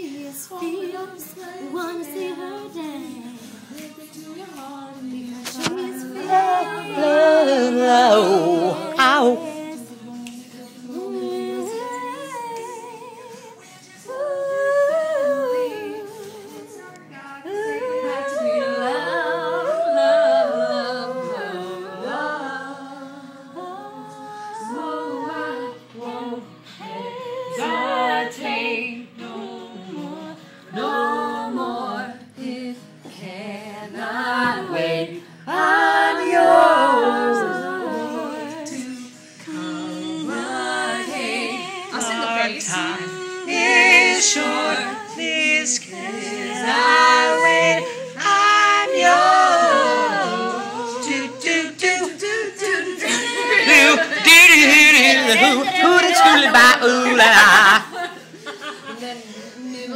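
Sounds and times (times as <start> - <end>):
group singing a cappella: 0.0 - 59.9.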